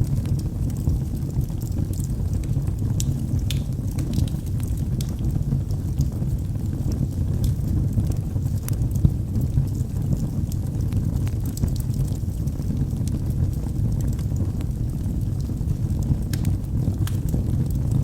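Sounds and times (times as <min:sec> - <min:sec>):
fire popping and crackling: 0:00.0 - 0:18.0
log fire burning: 0:00.0 - 0:18.0.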